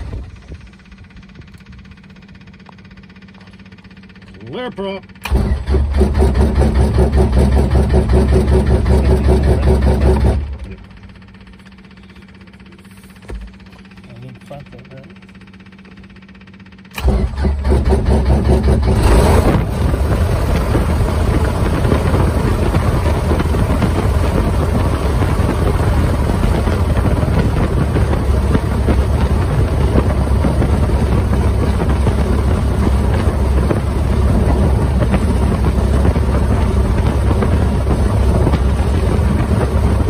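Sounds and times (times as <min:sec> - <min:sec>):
aircraft engine and propeller idling: 0:00.0 - 0:40.0.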